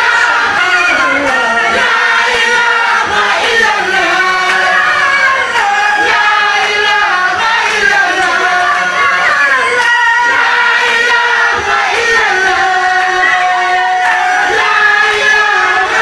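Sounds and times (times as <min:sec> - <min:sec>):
group chanting devotional song: 0:00.0 - 0:16.0.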